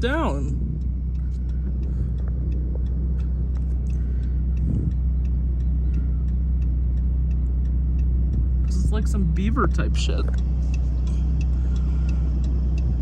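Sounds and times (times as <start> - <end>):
vehicle engine rumble from cabin: 0.0 - 13.0
faint ticks: 0.5 - 9.2, 9.8 - 13.0.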